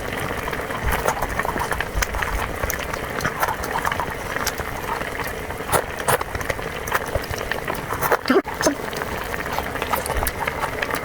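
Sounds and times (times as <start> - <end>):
chewing and slurping: 0.0 - 11.0
small mouth clicks and smacks: 0.3 - 11.0.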